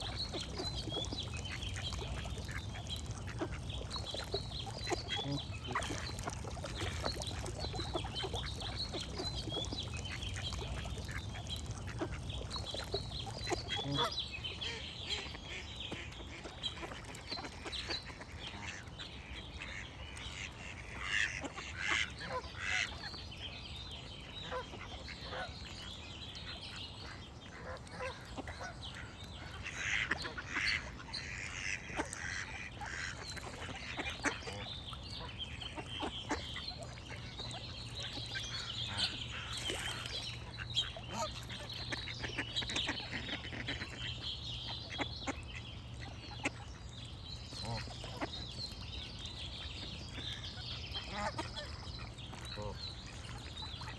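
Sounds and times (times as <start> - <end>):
ducks quacking: 0.0 - 23.0, 27.0 - 46.7, 47.5 - 48.5, 50.1 - 53.9
small birds singing: 0.0 - 53.9.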